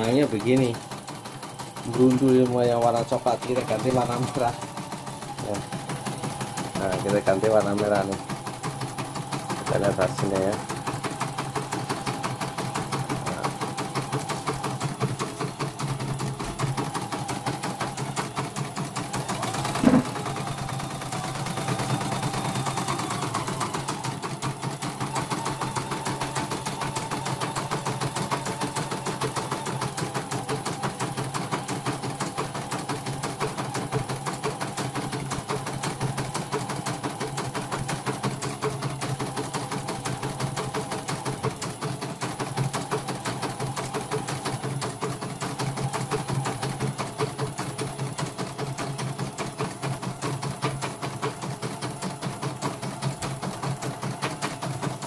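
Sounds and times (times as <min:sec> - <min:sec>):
embroidery machine stitching: 0:00.0 - 0:55.0.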